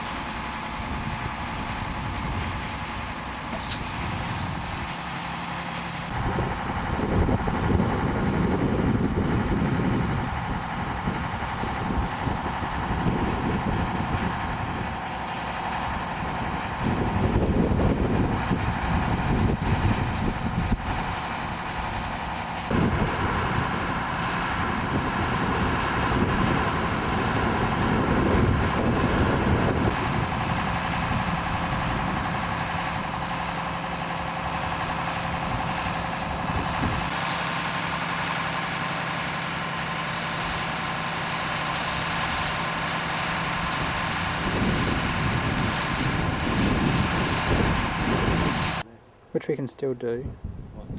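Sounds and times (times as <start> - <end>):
diesel engines idling: 0.0 - 50.2.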